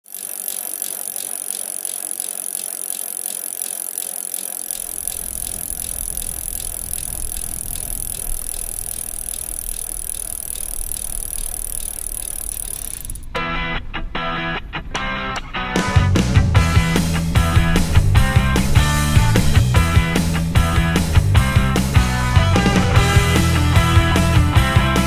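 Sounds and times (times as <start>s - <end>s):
bicycle freewheel ticking: 0.0s - 13.4s, 16.6s - 25.0s
low rumble of moving bike: 0.0s - 25.0s.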